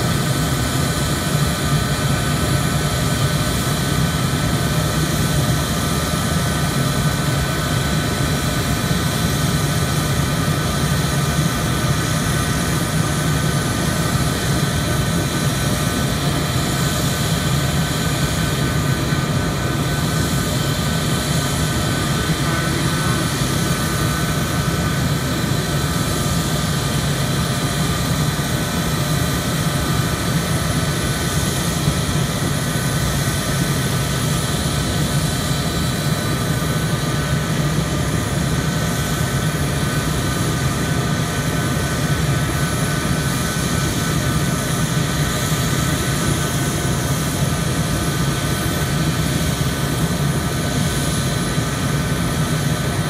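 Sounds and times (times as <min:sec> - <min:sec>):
jet turbine whining: 0:00.0 - 0:53.0.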